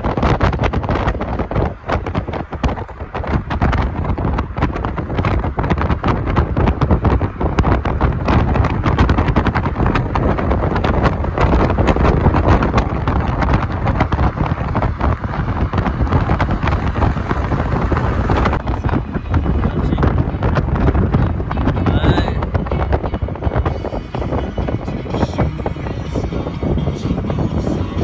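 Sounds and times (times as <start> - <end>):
road and engine rumble: 0.0 - 28.0
wind buffeting microphone: 0.0 - 28.0.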